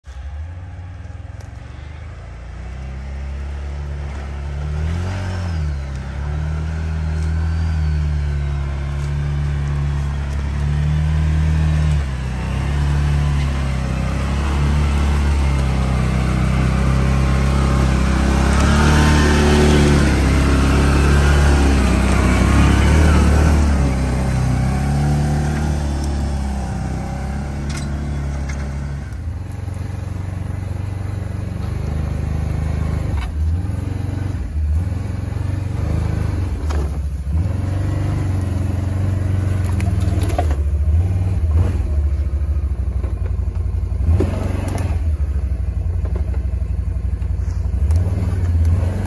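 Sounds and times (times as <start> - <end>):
tracked vehicle engine crawling: 0.0 - 49.0.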